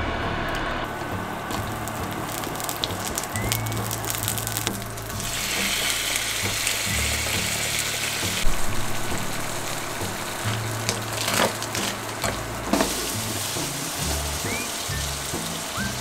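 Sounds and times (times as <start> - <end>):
soft background music: 0.2 - 16.0
food sizzling in a frying pan: 1.0 - 16.0.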